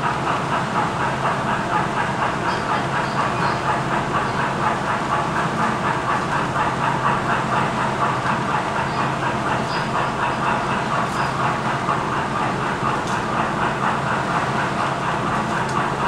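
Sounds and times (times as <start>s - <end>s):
model train wheels clicking on track: 0.0s - 16.0s.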